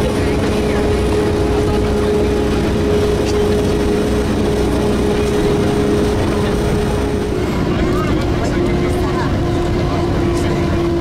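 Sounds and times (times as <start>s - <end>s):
constant whine: 0.0s - 11.0s
low rumble: 0.0s - 11.0s
railcar engine running noise: 0.0s - 11.0s.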